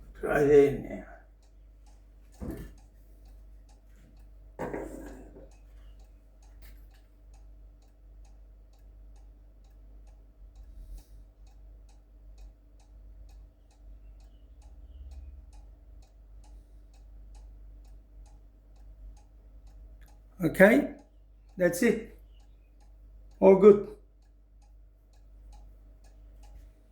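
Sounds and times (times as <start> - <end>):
clock ticking: 0.0 - 26.9.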